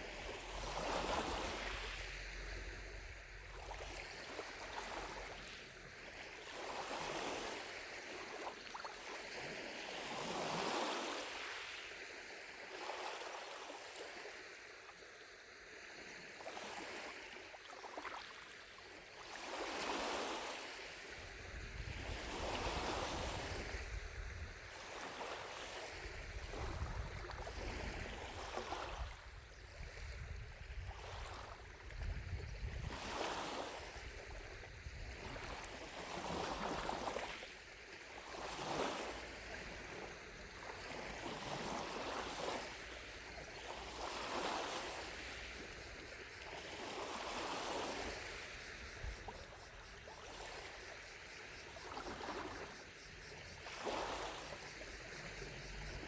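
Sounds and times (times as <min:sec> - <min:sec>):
waves lapping against shore: 0:00.0 - 0:56.0.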